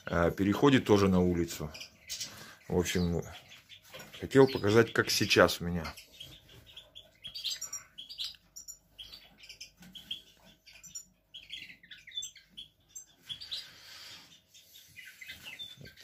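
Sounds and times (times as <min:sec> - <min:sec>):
finches chirping: 0:00.0 - 0:16.0.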